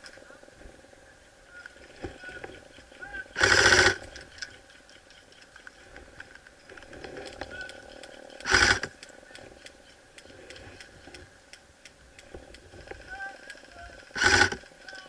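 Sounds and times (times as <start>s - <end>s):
faint clicks and rustling: 1.5s - 15.0s.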